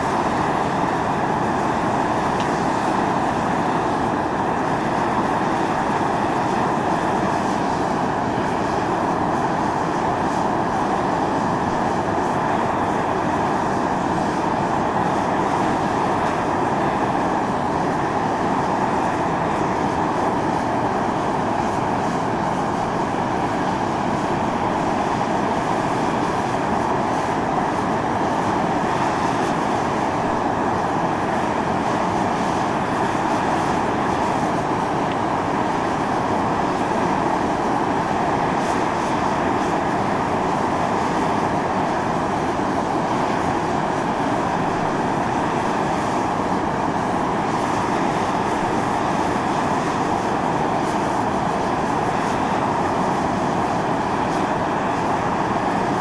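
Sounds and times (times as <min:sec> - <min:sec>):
steam venting hiss: 0:00.0 - 0:56.0.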